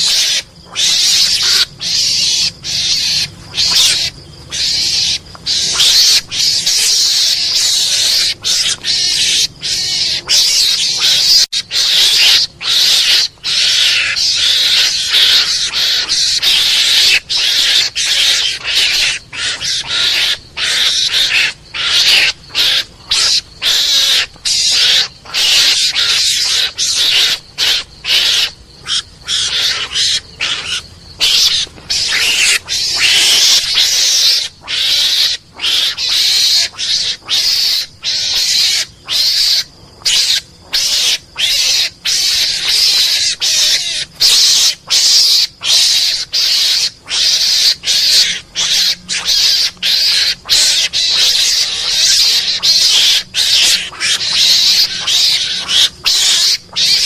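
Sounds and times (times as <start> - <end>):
mongoose hissing chatter: 0.0 - 57.0.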